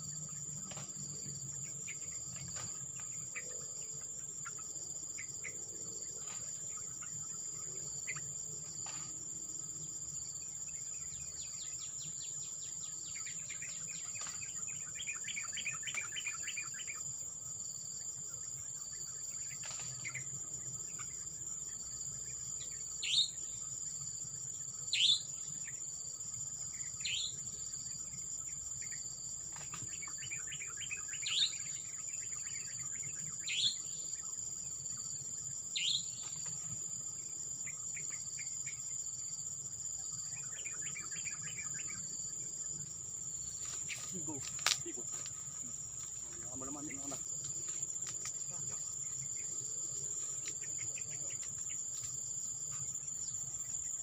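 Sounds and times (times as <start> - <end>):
insects droning and chirping: 0.0 - 54.0.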